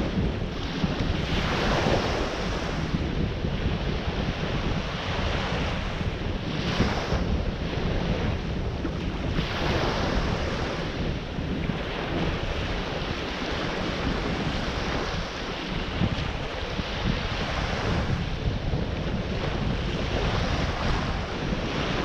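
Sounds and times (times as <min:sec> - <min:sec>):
ocean surf washing onto shore: 0:00.0 - 0:22.0
wind rumbling on microphone: 0:00.0 - 0:22.0.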